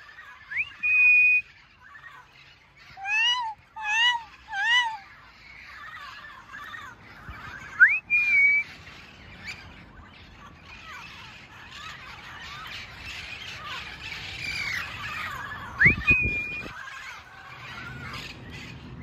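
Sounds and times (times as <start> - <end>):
parrots squawking and chattering: 0.0 - 19.0.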